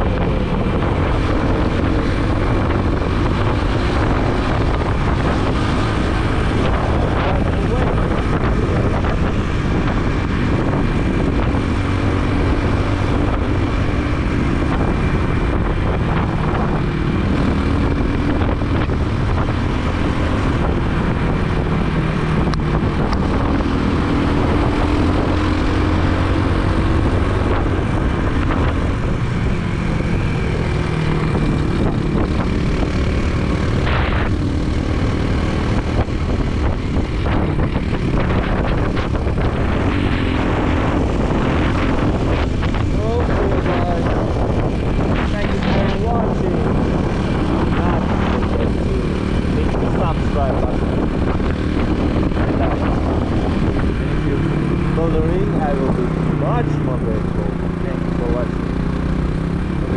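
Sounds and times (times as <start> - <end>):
motorbike engine running: 0.0 - 59.9
wind rush on microphone: 0.0 - 59.9.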